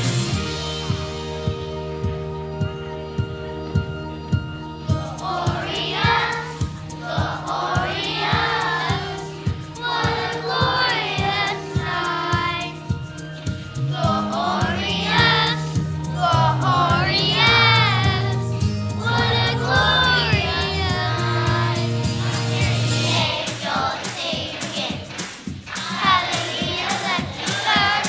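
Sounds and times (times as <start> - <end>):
accompaniment with steady beat: 0.0 - 28.0
children's choir singing: 4.9 - 28.0.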